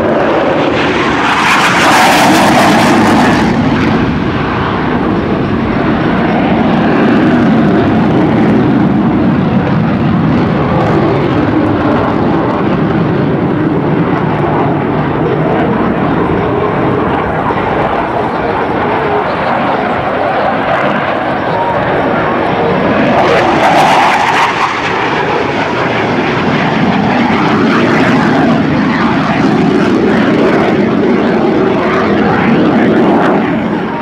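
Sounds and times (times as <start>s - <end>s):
jet engines roaring past: 0.0s - 34.0s.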